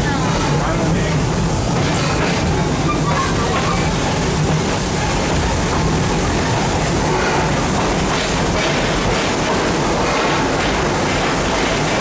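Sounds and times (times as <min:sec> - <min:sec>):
train rolling along track: 0:00.0 - 0:12.0.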